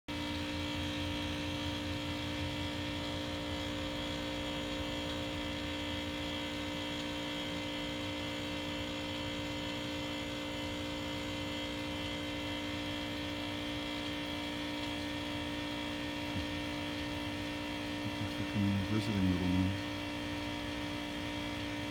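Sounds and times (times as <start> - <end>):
steady machine hum: 0.1 - 21.9.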